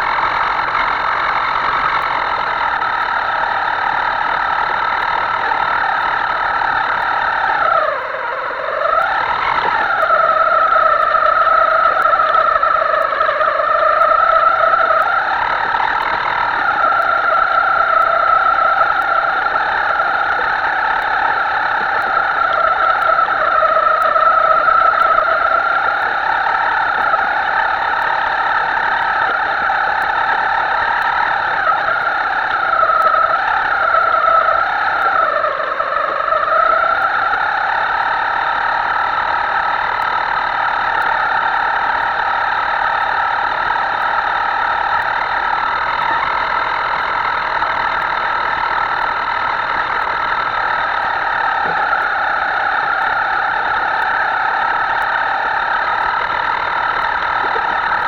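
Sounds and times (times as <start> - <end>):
model motor whining: 0.0 - 58.0.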